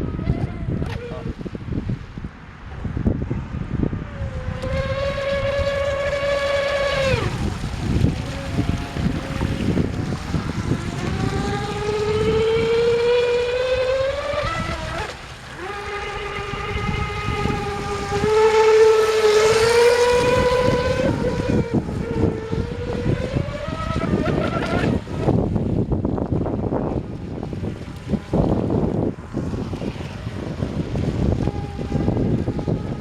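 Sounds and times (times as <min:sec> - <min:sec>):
electric boat motor whining: 0:00.0 - 0:01.9, 0:03.4 - 0:33.0
wind buffeting microphone: 0:00.0 - 0:33.0.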